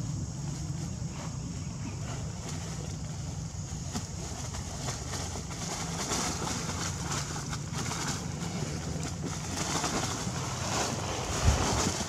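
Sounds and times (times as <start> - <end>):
low outdoor rumble and hiss: 0.0 - 12.0
dry leaves rustling and crackling: 2.0 - 12.0.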